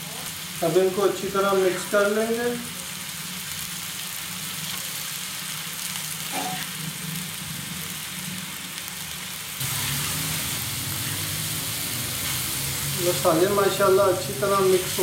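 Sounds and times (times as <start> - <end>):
meat sizzling on a hot griddle: 0.0 - 15.0.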